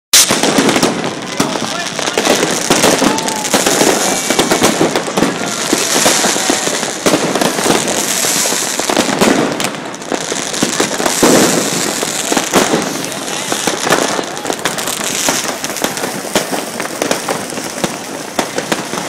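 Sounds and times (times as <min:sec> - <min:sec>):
fireworks crackling and banging: 0:00.2 - 0:19.0.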